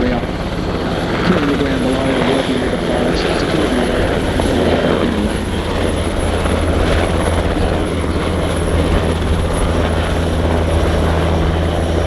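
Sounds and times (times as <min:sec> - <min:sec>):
helicopter rotors and engines droning: 0:00.0 - 0:12.0.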